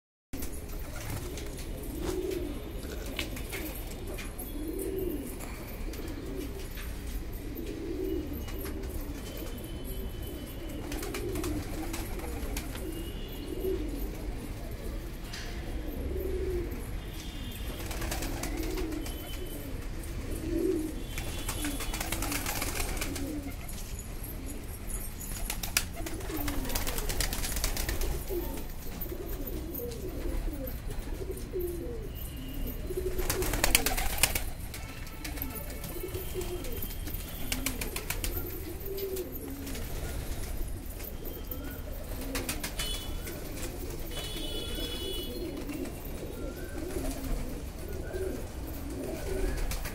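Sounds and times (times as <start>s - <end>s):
pigeons cooing: 0.4s - 17.1s, 17.7s - 49.9s.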